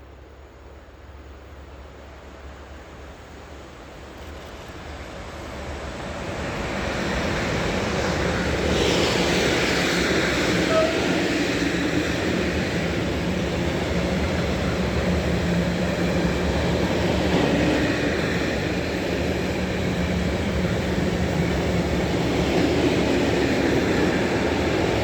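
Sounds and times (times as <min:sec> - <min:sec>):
train running past: 0:00.0 - 0:25.0.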